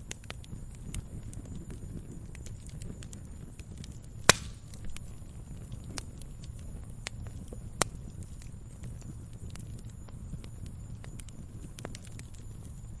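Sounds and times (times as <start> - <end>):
campfire crackling and popping: 0.0 - 13.0
low rumble of flame: 0.0 - 13.0.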